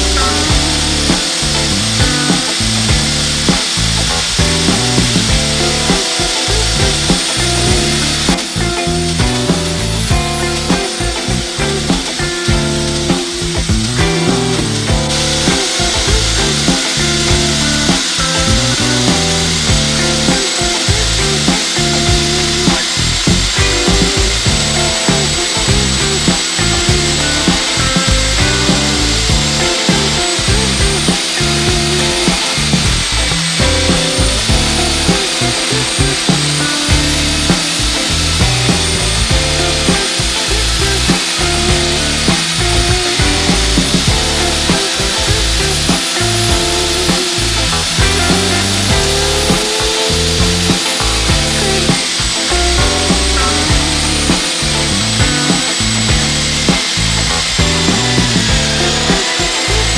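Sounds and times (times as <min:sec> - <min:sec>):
core drill cutting concrete: 0:00.0 - 0:10.7, 0:14.6 - 0:59.9
background music with bass line: 0:00.0 - 0:59.9.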